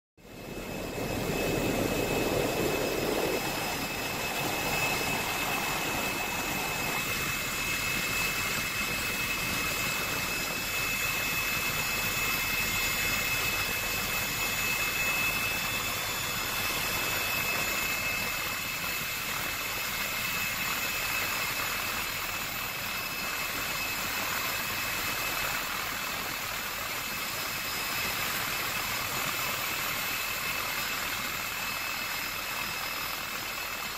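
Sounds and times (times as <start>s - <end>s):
aircraft engine noise: 0.2s - 33.9s
high-pitched engine whine: 0.2s - 33.9s.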